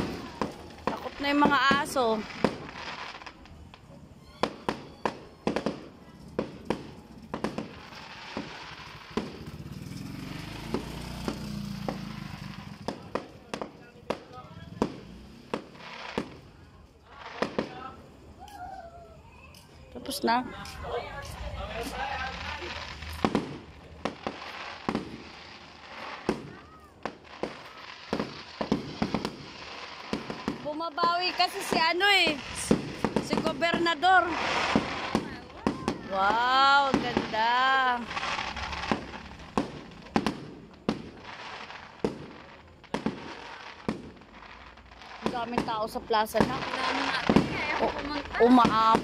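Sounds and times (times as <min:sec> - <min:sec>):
fireworks bangs and pops: 0:00.0 - 0:49.0.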